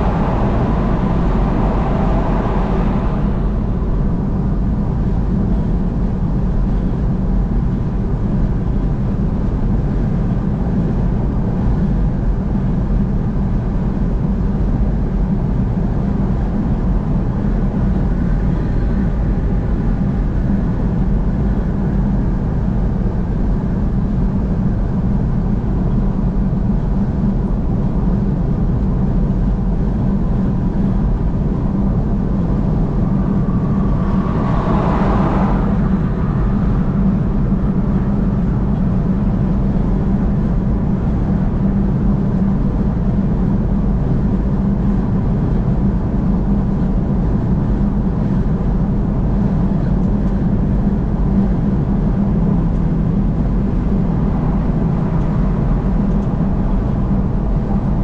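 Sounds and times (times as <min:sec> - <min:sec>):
vehicle driving on highway: 0:00.0 - 0:58.0.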